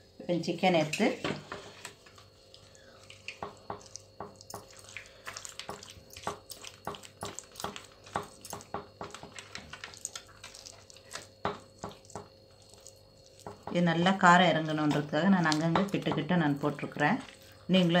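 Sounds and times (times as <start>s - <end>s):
hands squelching marinade on chicken: 2.2s - 18.0s.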